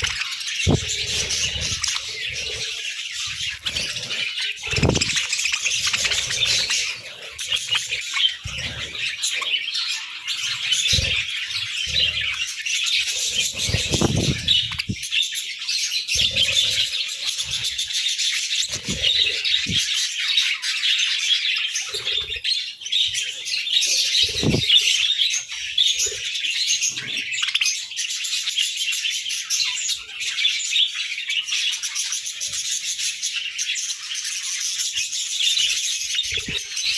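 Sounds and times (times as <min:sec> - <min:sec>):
budgerigars chattering and chirping: 0:00.0 - 0:36.9.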